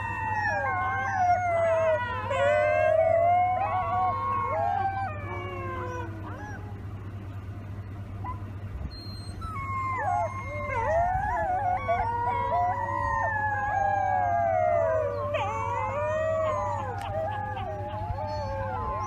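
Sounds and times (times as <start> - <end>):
wolf pups howling: 0.0 - 7.4, 8.1 - 19.0.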